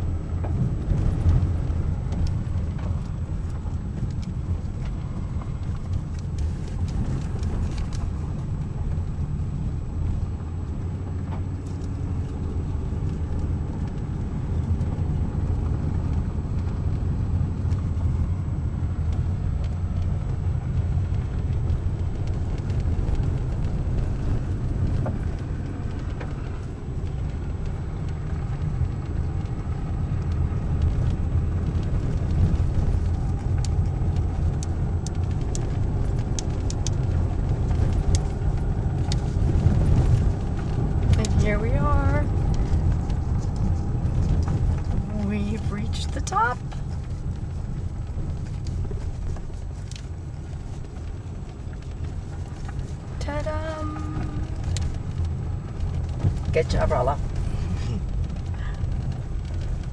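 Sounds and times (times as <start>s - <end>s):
car engine and tyres on gravel: 0.0s - 59.9s.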